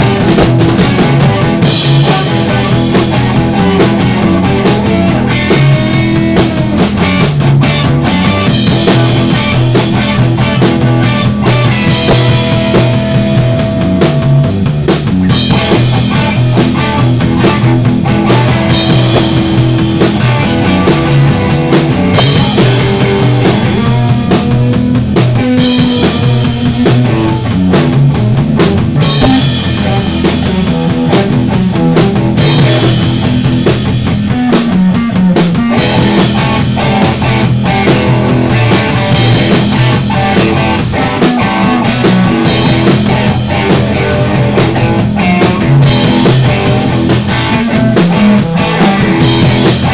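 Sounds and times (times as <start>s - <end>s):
rock band playing loudly: 0.0s - 49.9s.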